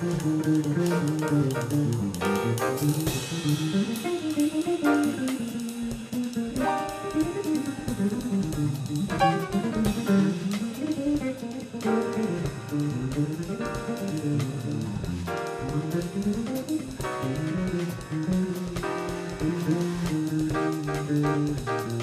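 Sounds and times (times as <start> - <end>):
electric bass line: 0.0 - 22.0.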